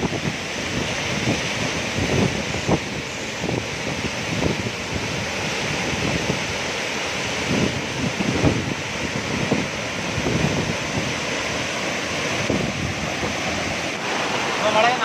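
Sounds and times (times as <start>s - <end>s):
wind buffeting microphone: 0.0s - 14.3s
waterfall rushing: 0.0s - 15.0s.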